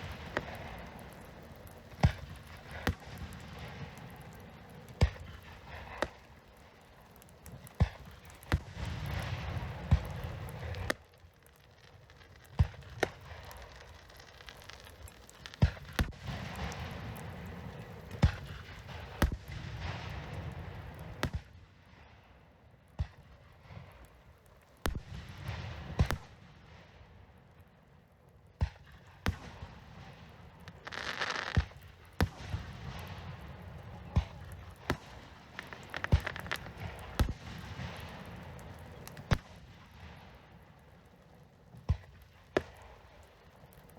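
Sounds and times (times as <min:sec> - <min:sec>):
fireworks bursting with bangs: 0:00.0 - 0:43.9
fireworks crackling and hissing: 0:00.0 - 0:43.9.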